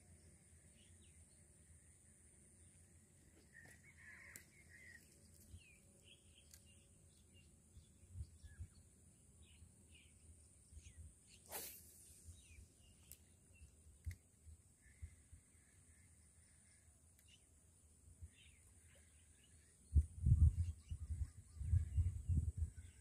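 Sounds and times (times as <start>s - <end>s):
faint birds calling: 0.0s - 23.0s.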